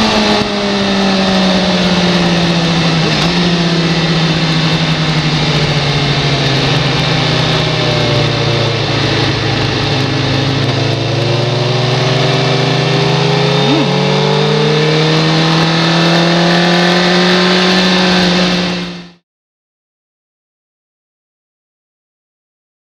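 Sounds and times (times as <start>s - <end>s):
motorcycle engine revving: 0.0s - 19.2s.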